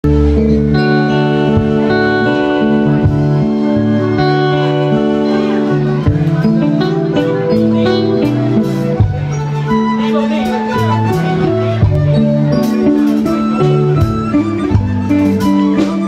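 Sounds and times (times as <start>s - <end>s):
live band instrumental music: 0.0s - 16.0s.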